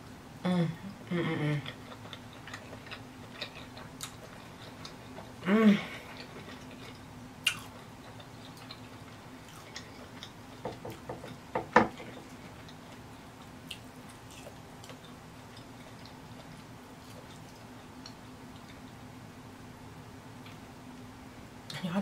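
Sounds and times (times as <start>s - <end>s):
low steady hum: 0.0s - 22.0s
soft chewing: 1.6s - 19.3s.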